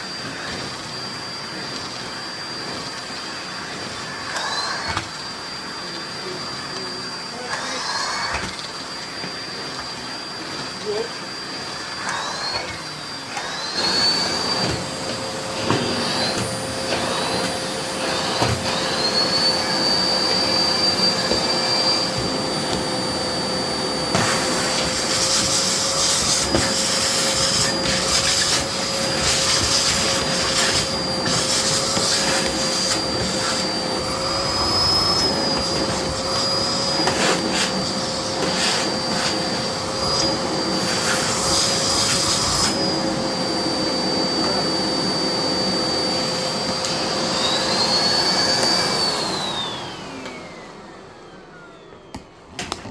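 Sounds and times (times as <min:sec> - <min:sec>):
vacuum cleaner whining: 0:00.0 - 0:52.9.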